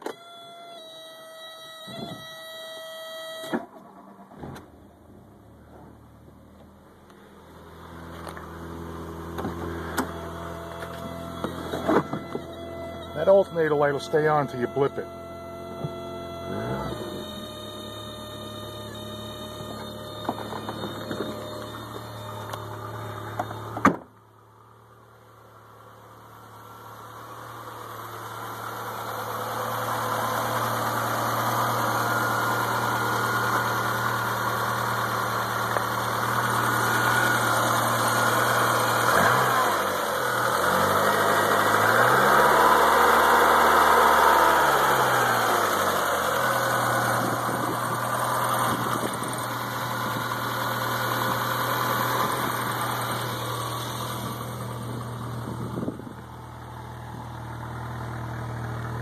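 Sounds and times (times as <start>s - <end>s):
car engine idling: 3.4s - 59.0s
engine revving: 7.7s - 23.8s, 26.8s - 59.0s.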